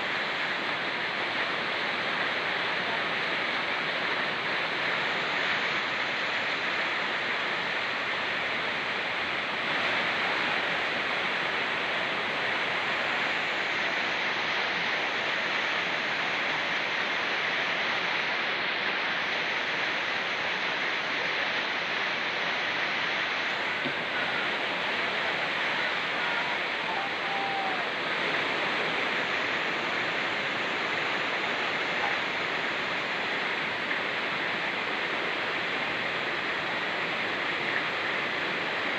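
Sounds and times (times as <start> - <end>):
fast-flowing river: 0.0 - 38.9
rain falling: 0.0 - 38.9.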